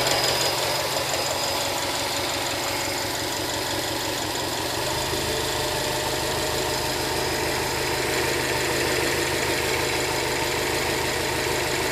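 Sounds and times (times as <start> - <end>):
car engine idling: 0.0 - 11.9
fast engine ticking: 0.0 - 11.9.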